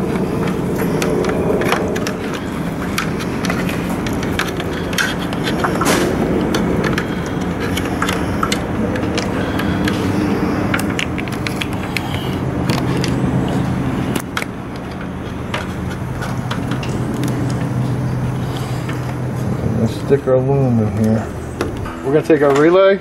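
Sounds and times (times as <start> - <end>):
wires clicking and rustling: 0.0 - 20.1
low mechanical hum: 0.0 - 23.0.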